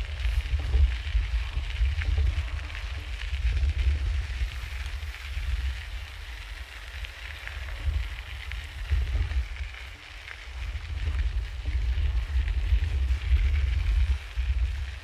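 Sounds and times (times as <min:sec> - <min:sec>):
light crackling hiss: 0:00.0 - 0:15.0
wind buffeting microphone: 0:00.0 - 0:15.0.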